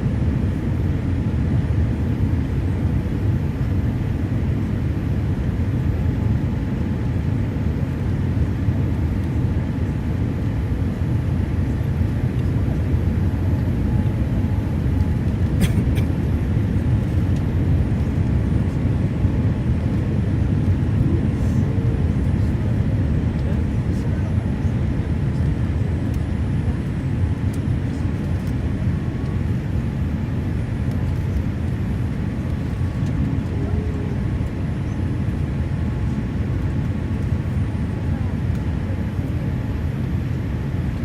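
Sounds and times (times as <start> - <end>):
airliner cabin rumble: 0.0 - 41.0.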